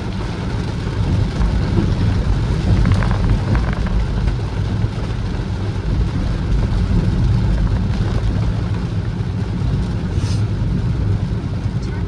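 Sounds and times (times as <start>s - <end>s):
car engine and tyres rumbling: 0.0s - 12.0s
hiss of rain and water: 0.0s - 12.0s.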